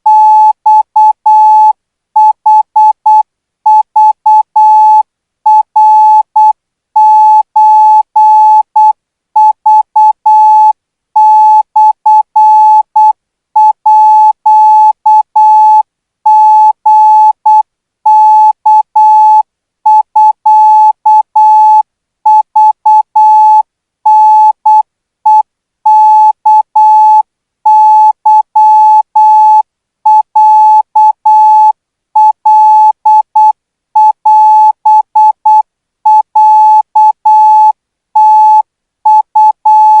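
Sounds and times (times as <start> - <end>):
morse code beeps: 0.1 - 40.0.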